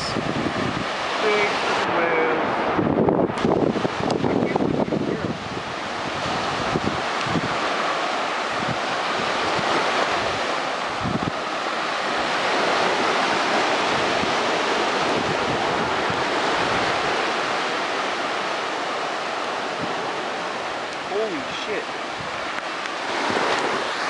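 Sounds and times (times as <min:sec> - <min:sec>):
ocean surf breaking: 0:00.0 - 0:24.0
wind gusting over microphone: 0:00.0 - 0:24.0.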